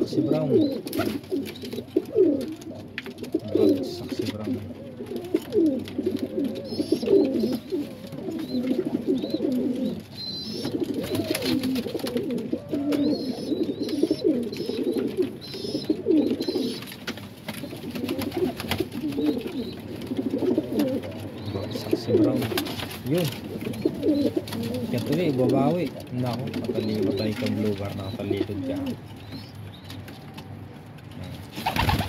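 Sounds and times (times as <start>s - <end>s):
pigeons cooing: 0.0s - 30.3s, 31.3s - 32.0s.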